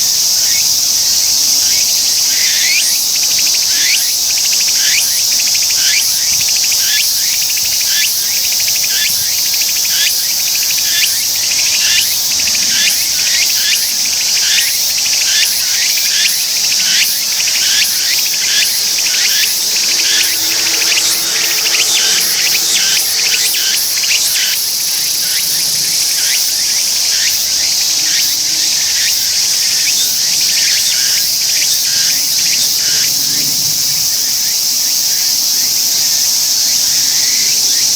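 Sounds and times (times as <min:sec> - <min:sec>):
high-pitched cicada buzz: 0:00.0 - 0:37.9
cicada pulsing song: 0:00.2 - 0:35.8.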